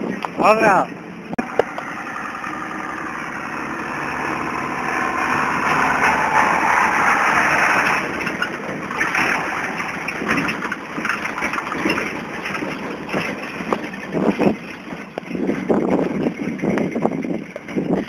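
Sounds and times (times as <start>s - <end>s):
knocks and clatter: 0.0s - 18.0s
tractor engine running: 0.0s - 18.0s.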